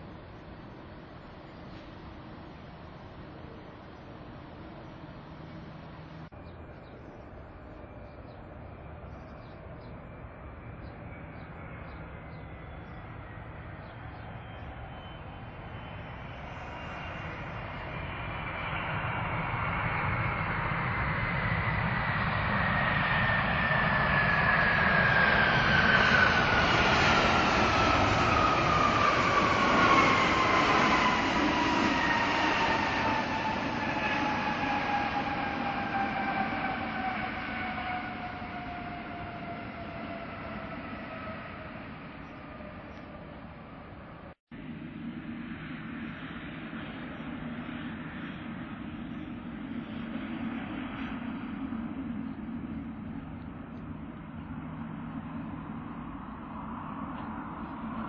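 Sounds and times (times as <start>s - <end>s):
jet airliner passing: 0.0s - 58.0s.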